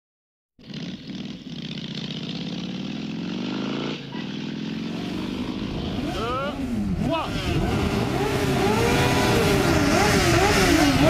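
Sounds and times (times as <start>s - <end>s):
motorcycle engine accelerating: 0.6s - 11.0s.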